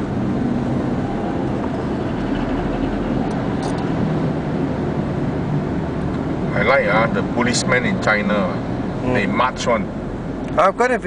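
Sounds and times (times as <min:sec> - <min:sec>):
car engine running: 0:00.0 - 0:11.0
tyres rolling on road: 0:00.0 - 0:11.0.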